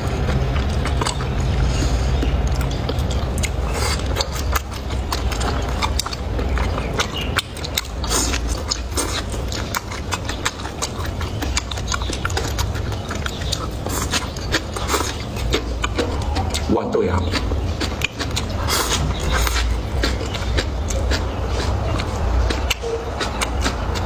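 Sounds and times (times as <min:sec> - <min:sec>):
person chewing and smacking: 0:00.0 - 0:24.0
steady low hum: 0:00.0 - 0:24.0.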